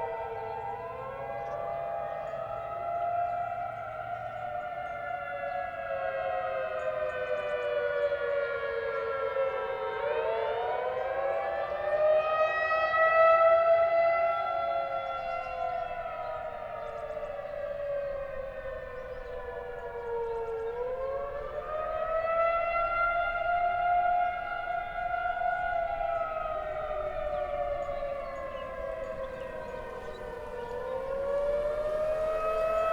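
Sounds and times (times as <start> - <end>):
distant warning siren wailing: 0.0 - 32.9.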